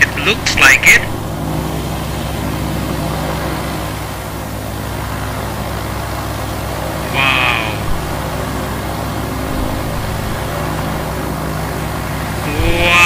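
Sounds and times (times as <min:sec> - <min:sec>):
propeller airplane engine running: 0:00.0 - 0:13.0.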